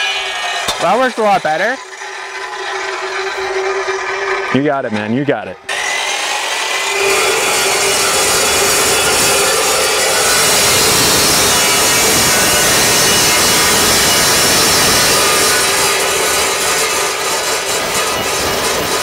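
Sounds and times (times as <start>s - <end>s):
chop saw cutting steel: 0.0s - 19.0s.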